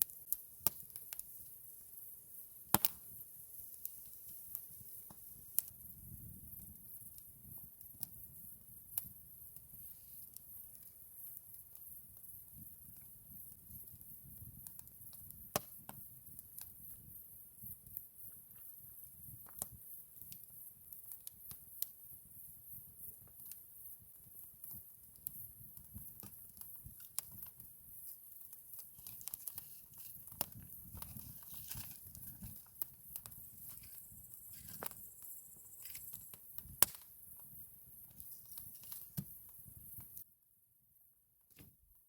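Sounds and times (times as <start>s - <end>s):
campfire crackling: 0.0s - 40.3s.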